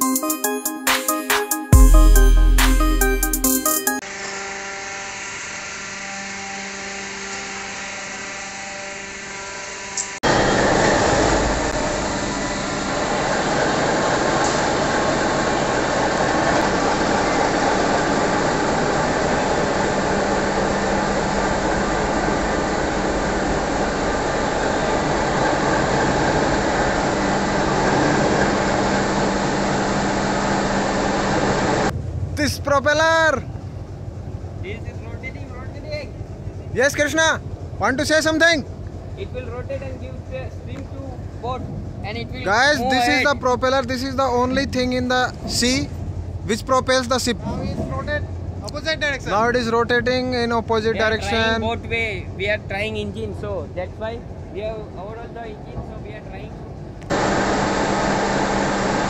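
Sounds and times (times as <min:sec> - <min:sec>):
quieter machinery hum: 0:04.0 - 0:59.0
ship diesel engine din: 0:10.2 - 0:59.0.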